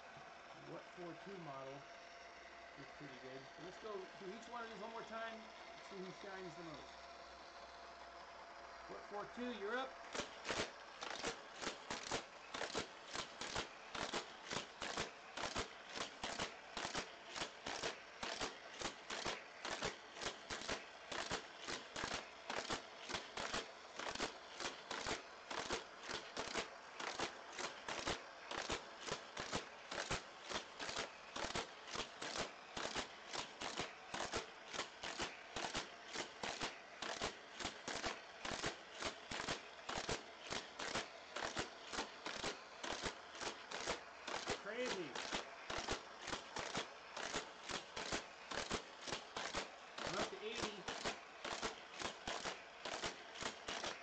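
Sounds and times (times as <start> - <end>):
toy car clattering through plastic track: 9.2 - 54.0.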